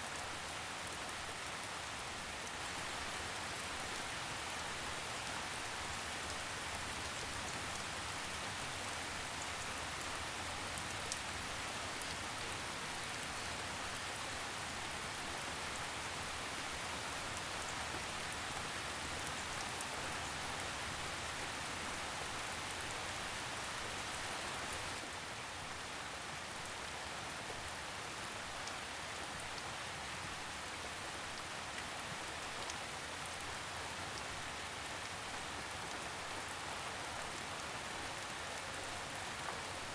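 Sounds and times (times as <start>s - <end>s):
rain drops ticking: 0.0s - 25.2s, 26.4s - 39.9s
steady rainfall: 0.0s - 39.9s.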